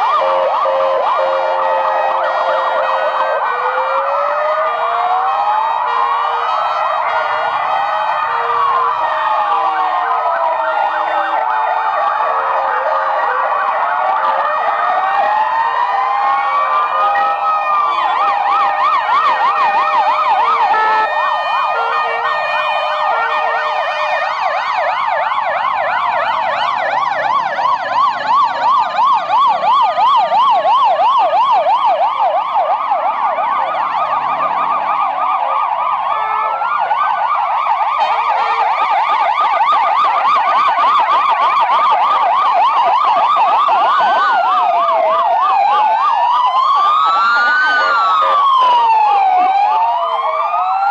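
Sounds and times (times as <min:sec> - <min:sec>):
ambulance sirens: 0:00.0 - 0:50.9.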